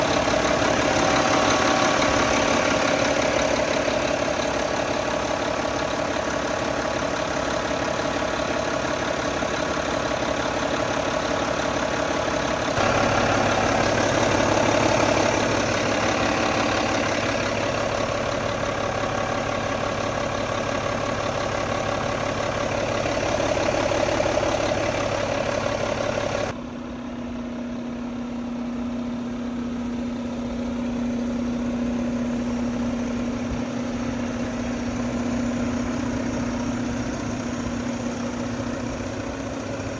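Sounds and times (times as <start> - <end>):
garbage truck diesel idling: 0.0 - 39.9.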